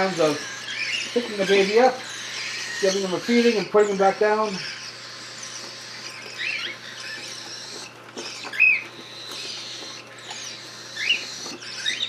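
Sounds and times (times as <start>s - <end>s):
cockatiel chicks chirping: 0.0s - 12.0s.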